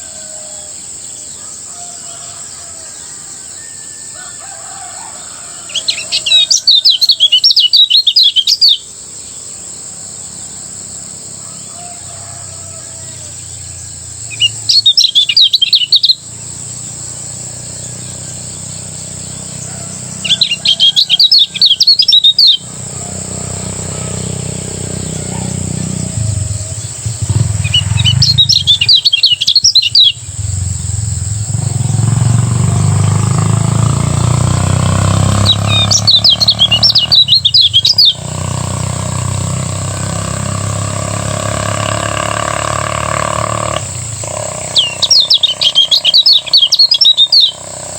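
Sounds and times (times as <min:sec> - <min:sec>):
songbird chattering song: 0:00.0 - 0:47.9.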